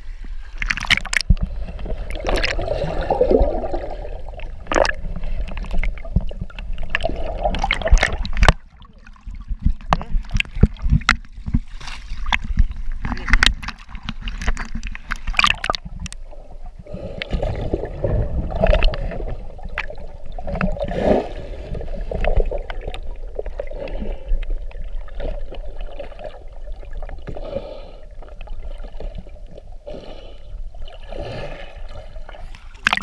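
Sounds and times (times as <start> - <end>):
water sloshing underwater: 0.0 - 33.0.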